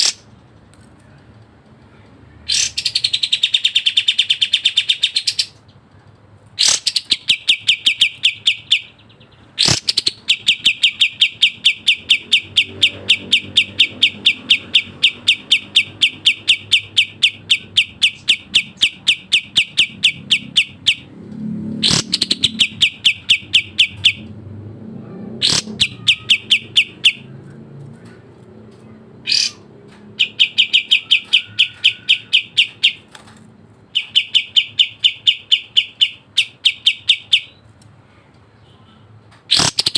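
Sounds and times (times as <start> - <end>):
bird singing fast trills: 2.4 - 5.6, 6.6 - 24.4, 25.3 - 28.1, 29.2 - 33.2, 33.9 - 37.7, 39.5 - 39.9.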